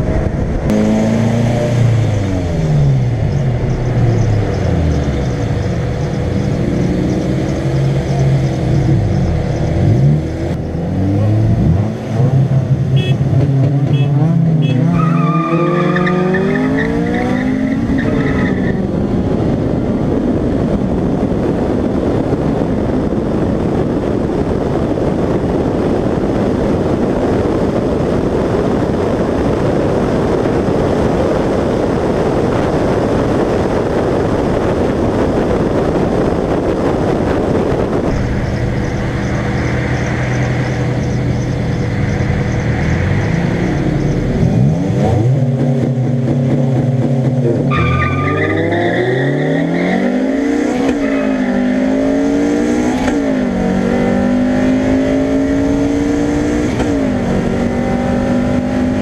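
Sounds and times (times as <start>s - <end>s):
car engines racing at full throttle: 0.0s - 59.0s
wind and road noise: 0.0s - 59.0s.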